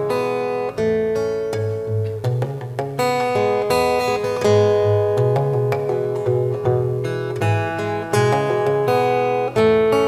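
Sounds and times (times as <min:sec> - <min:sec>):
fingerstyle acoustic guitar: 0:00.0 - 0:10.0.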